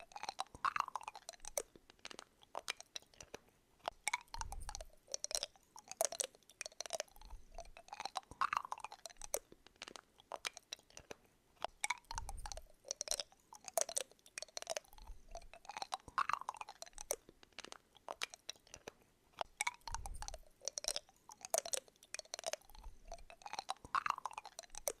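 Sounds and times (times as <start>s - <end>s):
crunchy chewing: 0.0s - 25.0s.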